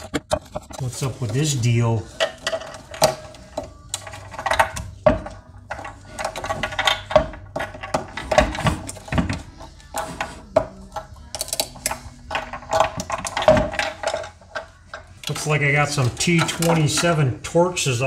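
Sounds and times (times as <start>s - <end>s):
plastic clicks and scrapes: 0.0s - 17.2s.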